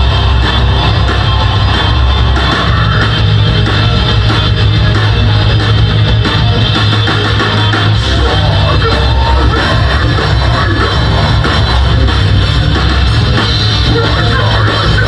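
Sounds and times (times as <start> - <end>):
metalcore band playing live: 0.0 - 15.0.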